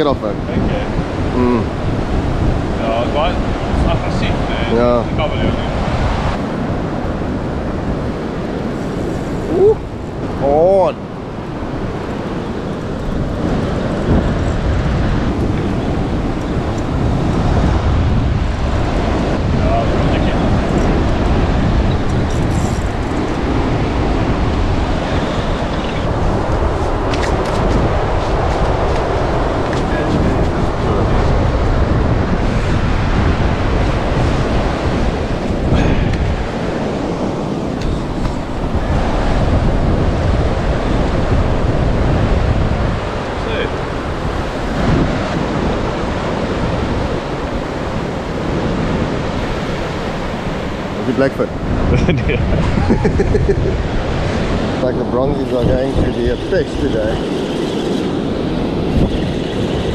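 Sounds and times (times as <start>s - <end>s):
breaking surf: 0.0s - 59.9s
wind rumbling on microphone: 0.0s - 59.9s.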